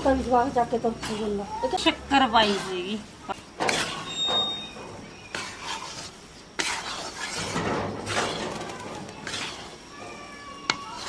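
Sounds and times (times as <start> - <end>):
metal spatula scraping a pan: 0.2 - 11.0.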